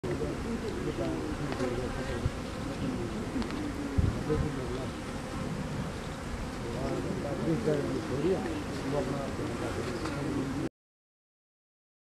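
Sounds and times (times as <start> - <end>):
honeybees buzzing: 0.0 - 10.7.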